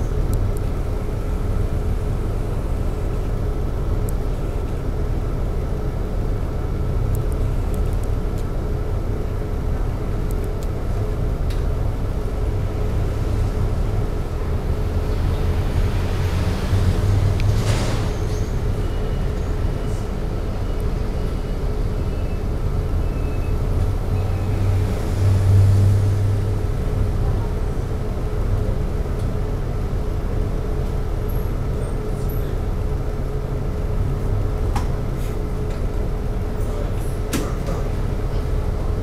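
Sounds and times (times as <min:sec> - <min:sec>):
bus engine hum: 0:00.0 - 0:39.0.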